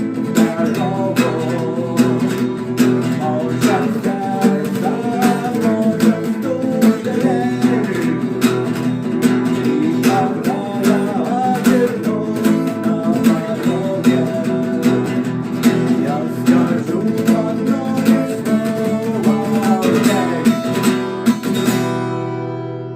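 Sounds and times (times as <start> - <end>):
acoustic guitar strumming: 0.0 - 22.9.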